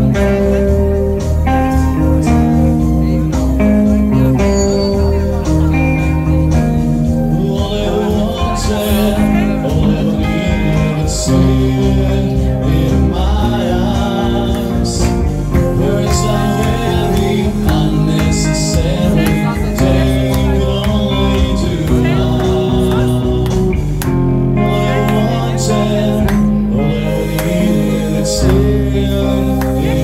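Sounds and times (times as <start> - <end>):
acoustic guitar: 0.0 - 30.0
electric guitar: 0.0 - 30.0
man singing: 0.0 - 30.0.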